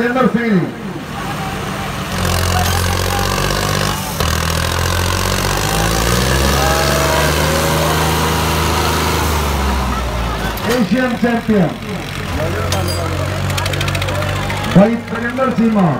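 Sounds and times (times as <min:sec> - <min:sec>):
tractor diesel engines droning: 0:00.0 - 0:15.9.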